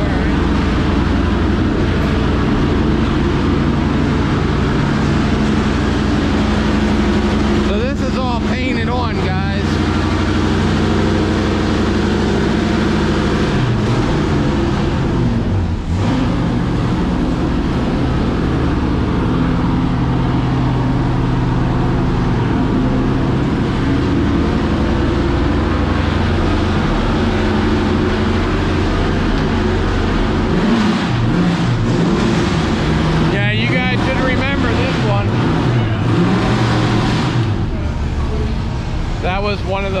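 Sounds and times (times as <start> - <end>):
race car engines revving: 0.0 - 40.0.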